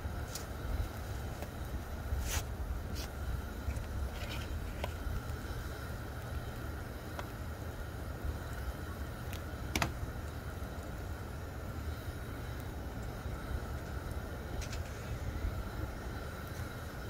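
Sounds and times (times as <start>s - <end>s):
fire crackles: 0.0s - 17.0s
fire low rumble: 0.0s - 17.0s.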